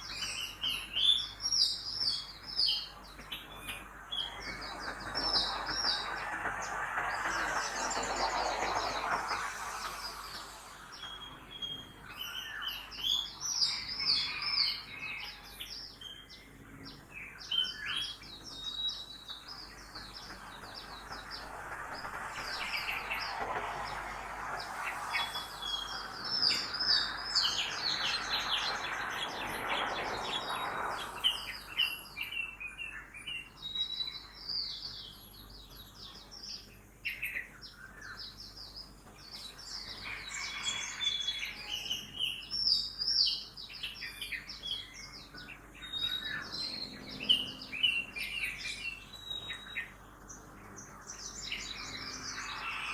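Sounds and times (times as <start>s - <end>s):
passing car traffic hiss: 0.0s - 16.0s, 17.4s - 33.4s, 38.2s - 52.9s
town background noise: 0.0s - 33.6s, 34.2s - 52.9s
small birds chirping and trilling: 0.0s - 52.9s.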